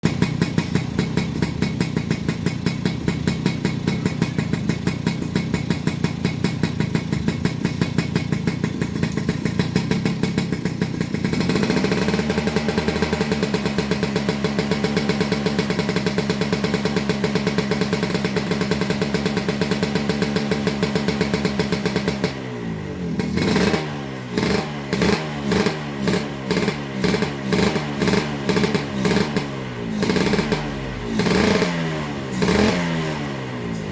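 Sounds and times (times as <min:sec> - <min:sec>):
two-stroke motorcycle engine running: 0:00.0 - 0:33.9.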